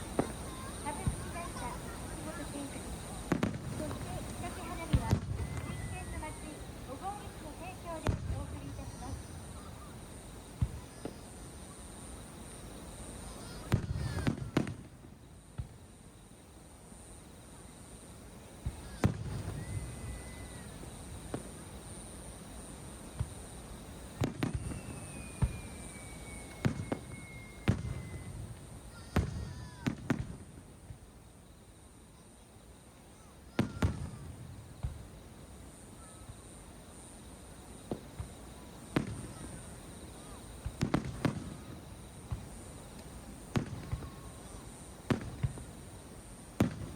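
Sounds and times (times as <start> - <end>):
falling firework whistle: 0.0 - 15.8, 17.0 - 32.4, 33.2 - 46.9
fireworks bursting with booms: 0.0 - 46.9.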